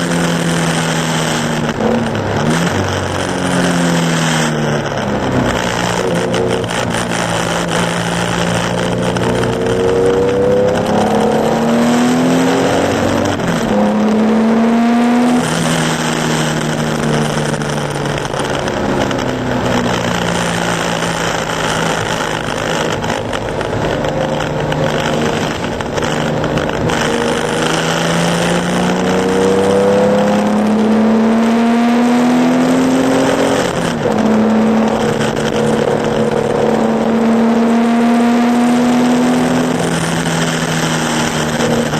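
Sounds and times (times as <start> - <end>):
racing car engine: 0.0 - 41.9.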